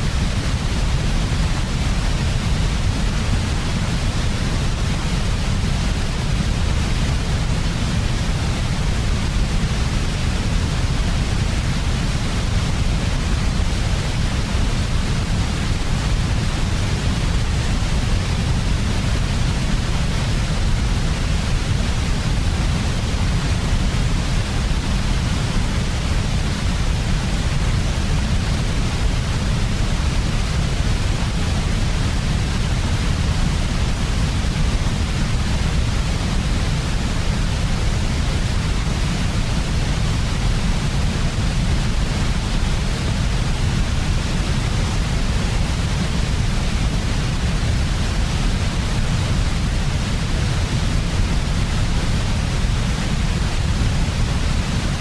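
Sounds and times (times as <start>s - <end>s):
electronic white noise: 0.0s - 55.0s.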